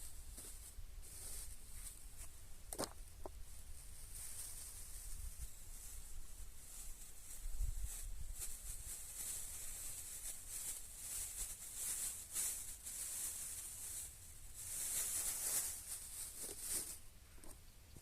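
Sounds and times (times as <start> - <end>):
rustling and scratching: 0.0 - 18.0.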